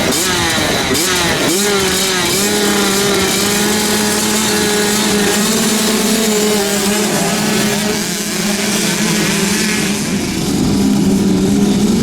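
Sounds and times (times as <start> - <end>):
two-stroke dirt bike engine: 0.0 - 12.0.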